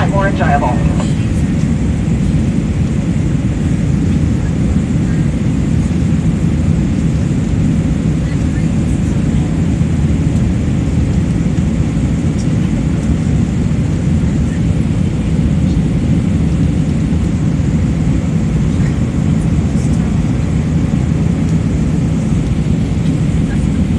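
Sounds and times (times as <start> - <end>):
aircraft cabin engine rumble: 0.0 - 23.9.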